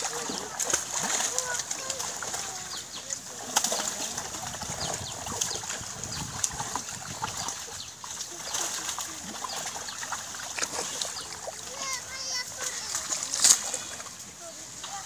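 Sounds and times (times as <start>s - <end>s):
fish flapping and splashing: 0.0s - 14.3s.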